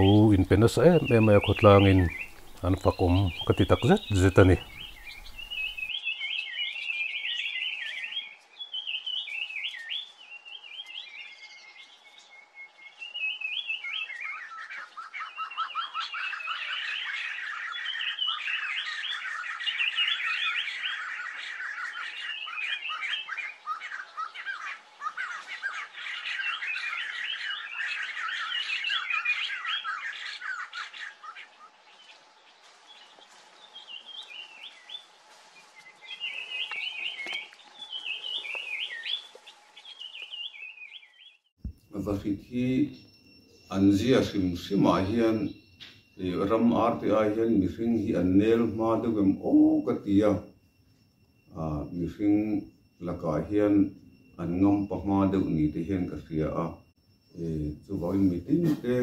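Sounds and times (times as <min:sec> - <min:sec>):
birds chattering and squawking: 0:00.0 - 0:50.7, 0:51.4 - 0:59.0.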